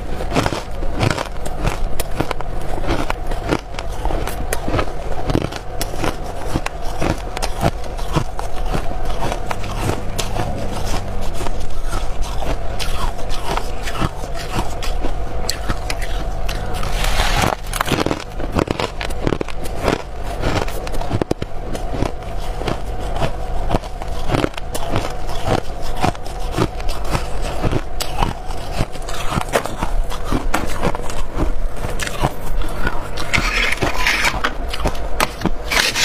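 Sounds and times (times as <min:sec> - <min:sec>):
ice crunching while chewed: 0:00.0 - 0:36.0.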